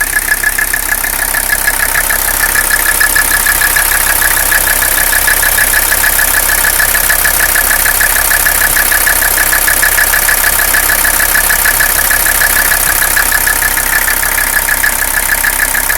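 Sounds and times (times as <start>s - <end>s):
diesel engine idling roughly: 0.0s - 15.9s.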